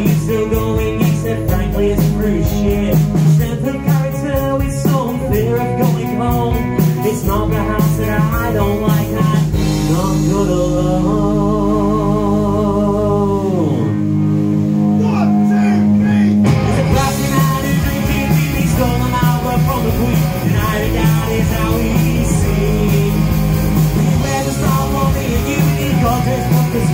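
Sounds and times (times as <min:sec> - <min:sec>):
drum kit beat: 0:00.0 - 0:10.8, 0:15.8 - 0:26.9
person singing: 0:00.0 - 0:14.1, 0:15.0 - 0:26.9
bass guitar: 0:00.0 - 0:26.9
electric guitar: 0:00.0 - 0:26.9.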